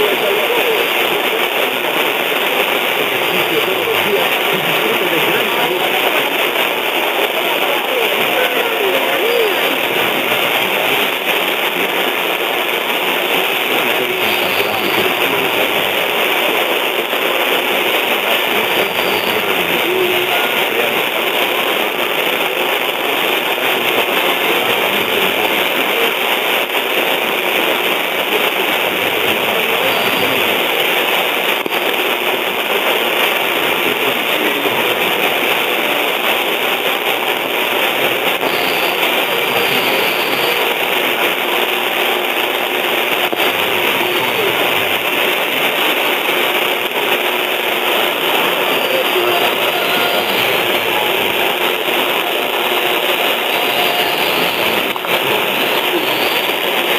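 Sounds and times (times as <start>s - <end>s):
radio static hiss: 0.0s - 56.9s.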